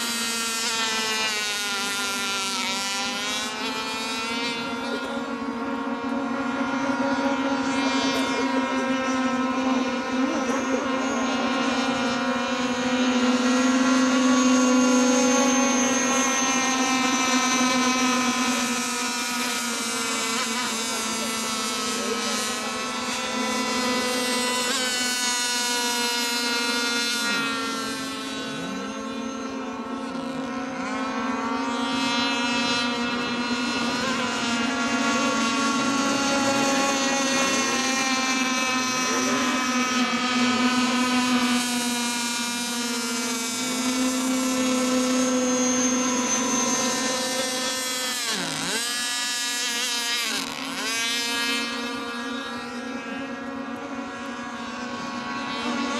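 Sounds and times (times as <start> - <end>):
model boat motors whining: 0.0 - 55.9.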